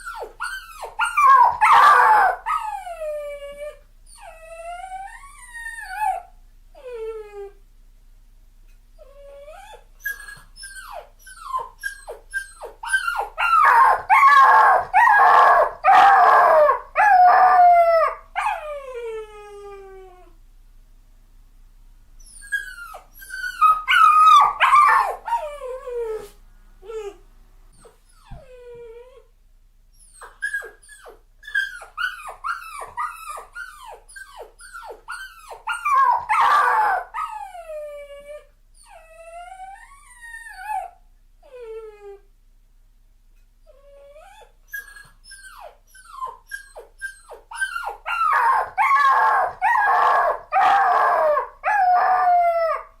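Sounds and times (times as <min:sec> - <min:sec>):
puppy whimpering and whining: 0:00.0 - 0:07.6, 0:09.0 - 0:20.4, 0:22.2 - 0:29.3, 0:29.9 - 0:42.3, 0:43.6 - 0:53.0.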